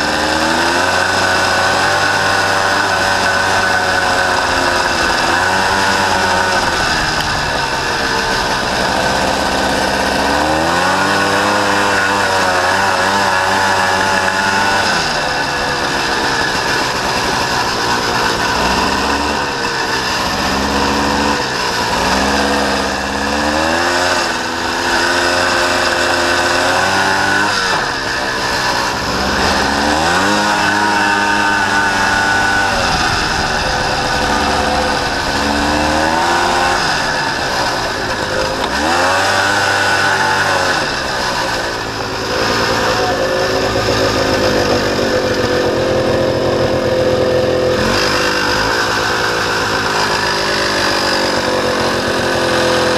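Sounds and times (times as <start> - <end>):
engine revving under load: 0.0 - 52.9.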